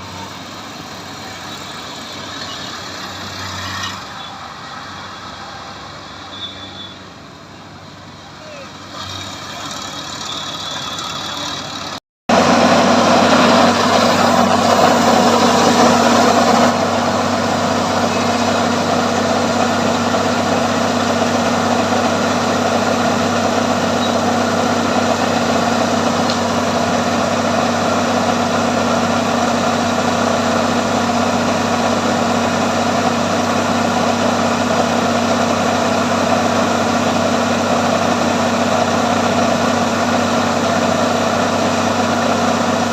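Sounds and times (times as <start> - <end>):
combine harvester engine humming: 0.0 - 42.9.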